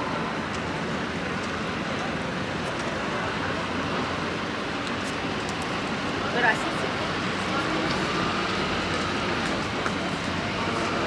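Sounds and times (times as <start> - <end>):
chatter of passers-by: 0.0 - 11.0
steady traffic noise: 0.0 - 11.0.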